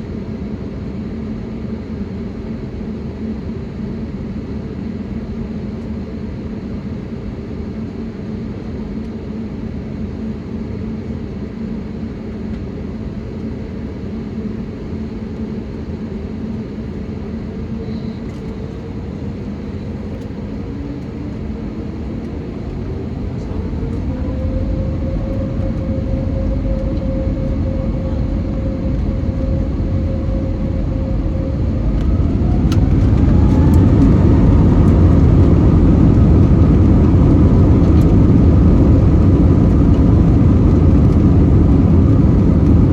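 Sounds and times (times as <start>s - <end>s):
jet engines whining in cabin: 0.0s - 42.9s.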